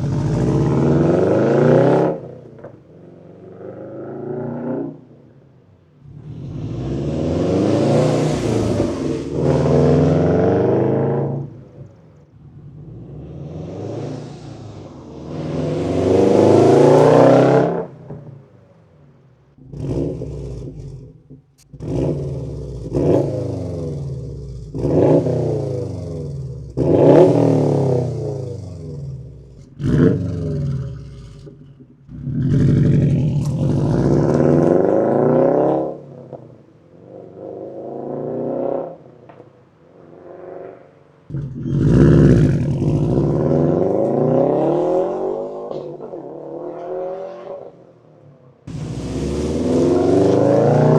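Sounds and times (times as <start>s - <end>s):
car engine revving: 0.0s - 5.2s, 5.9s - 18.5s, 19.5s - 47.9s, 48.5s - 50.9s.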